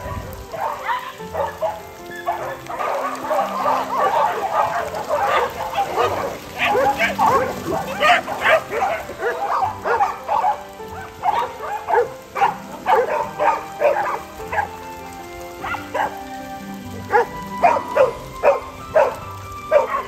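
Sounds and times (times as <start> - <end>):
background music with held notes: 0.0 - 20.0
dogs barking and yipping: 0.0 - 20.0.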